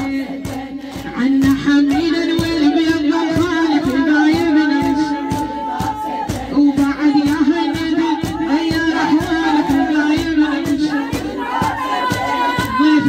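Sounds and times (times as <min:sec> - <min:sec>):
chorus of voices: 0:00.0 - 0:13.0
rhythmic chest-beating: 0:00.0 - 0:13.0.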